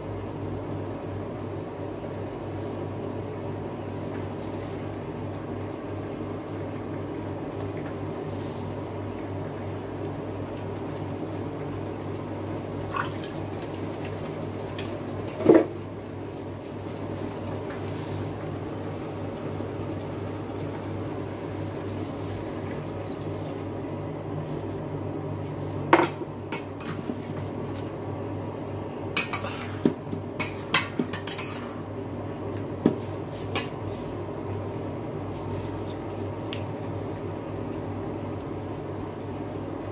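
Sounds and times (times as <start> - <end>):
fan hum: 0.0 - 39.9.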